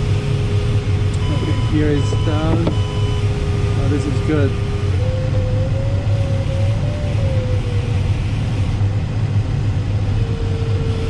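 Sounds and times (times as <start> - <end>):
airflow rushing past cockpit: 0.0 - 11.0
variometer wavering tone: 0.0 - 11.0.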